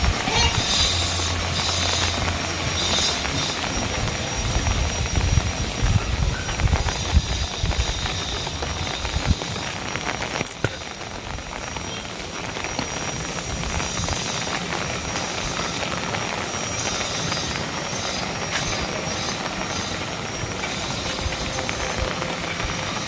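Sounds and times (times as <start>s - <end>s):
heavy rain falling: 0.0s - 23.0s
wind rumbling on microphone: 0.0s - 23.0s.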